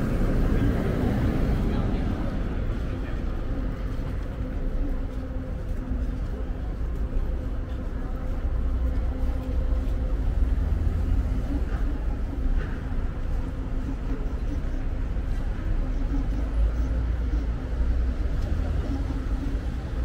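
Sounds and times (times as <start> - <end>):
street traffic engine rumble: 0.0 - 20.0.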